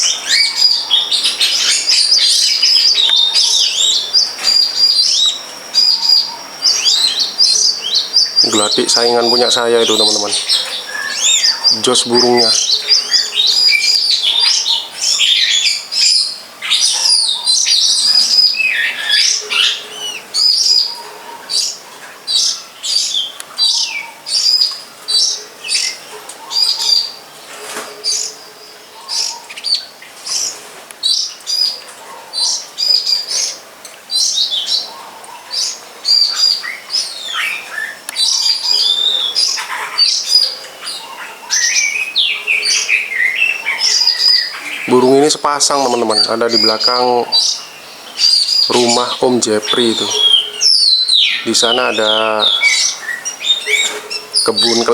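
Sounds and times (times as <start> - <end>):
bird chattering: 0.0 - 27.4, 28.0 - 54.9
songbirds singing: 0.0 - 54.9.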